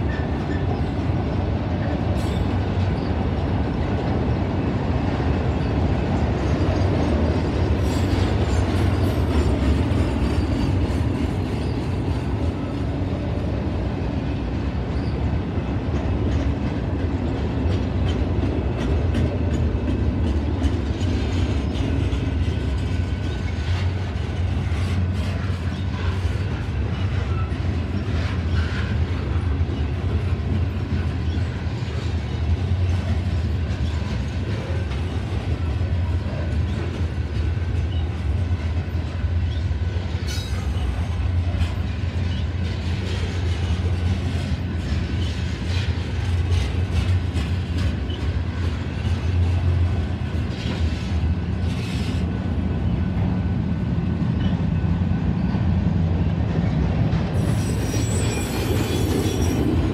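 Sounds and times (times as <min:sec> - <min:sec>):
clickety-clack over rail joints: 0:00.0 - 0:59.9
freight train wheels rumbling: 0:00.0 - 0:59.9.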